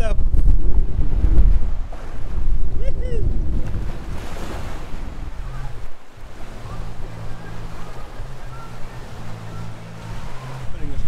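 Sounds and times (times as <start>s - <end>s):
wind and water rushing: 0.0s - 11.0s
wind buffeting microphone: 0.0s - 11.0s.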